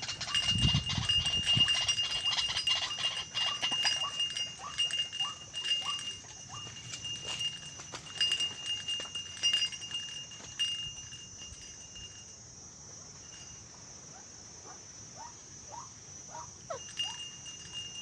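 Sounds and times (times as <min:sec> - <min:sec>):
high-pitched insect drone: 0:00.0 - 0:14.2, 0:15.2 - 0:18.0.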